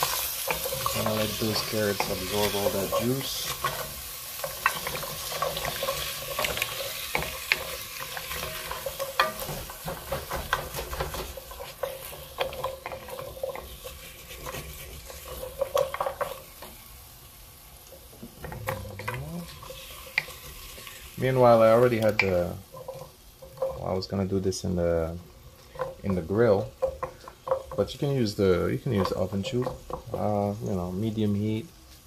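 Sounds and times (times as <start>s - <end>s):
wooden spoon scraping a pot: 0.0s - 16.9s, 18.0s - 24.2s, 25.6s - 30.6s
pan juices sizzling: 0.0s - 32.0s.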